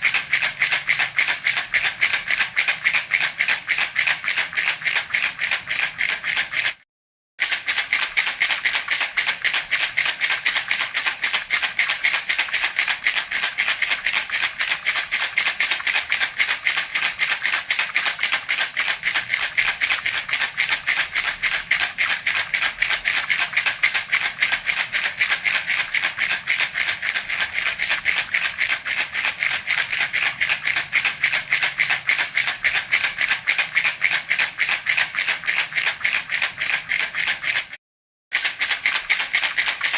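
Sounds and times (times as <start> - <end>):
baby rattle shaken: 0.0 - 6.8, 7.4 - 37.8, 38.4 - 39.9.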